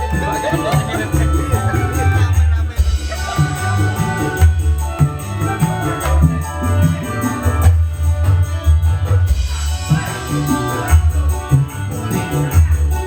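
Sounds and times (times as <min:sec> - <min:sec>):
deep drum beats: 0:00.0 - 0:11.7
shaker and tambourine rattle: 0:00.0 - 0:13.0
sustained melody line: 0:00.0 - 0:13.0.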